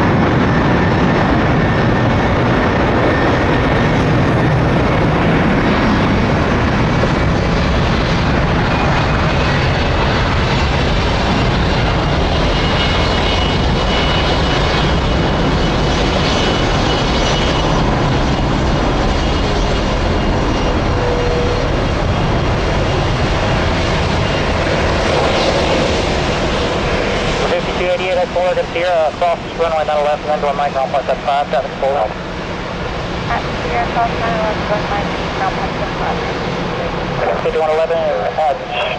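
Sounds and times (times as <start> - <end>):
jet airliner engines running: 0.0 - 38.9.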